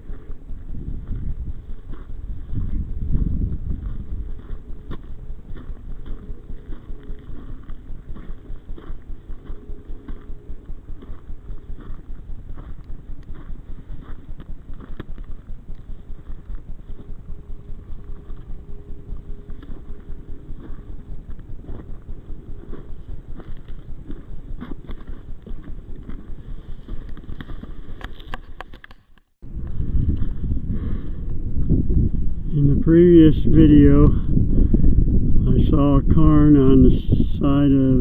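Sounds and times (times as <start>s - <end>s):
footsteps on dirt and rock trail: 0.0s - 28.8s, 29.4s - 34.2s.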